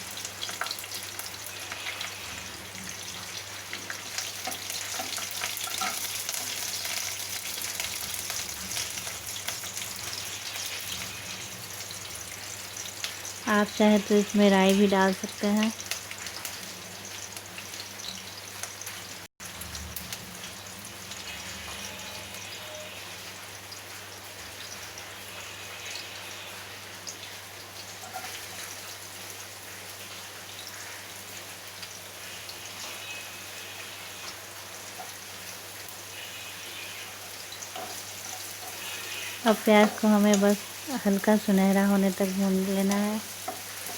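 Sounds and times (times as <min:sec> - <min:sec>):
onion sizzling in hot oil: 0:00.0 - 0:43.9.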